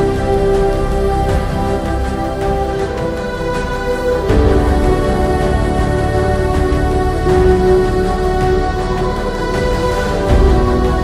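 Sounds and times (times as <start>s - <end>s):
background music with sustained chords: 0.0s - 11.0s.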